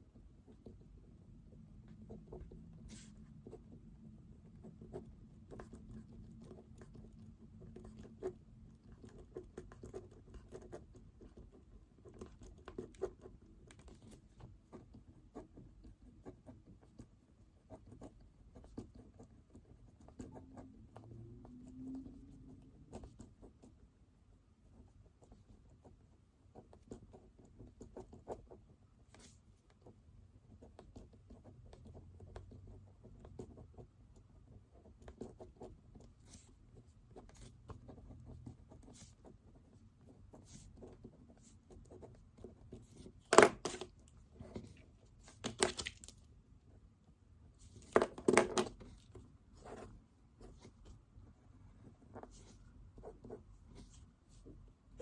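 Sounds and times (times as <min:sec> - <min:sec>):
pen scratching on paper: 0:01.8 - 0:23.8, 0:24.6 - 0:45.7, 0:47.5 - 0:55.0.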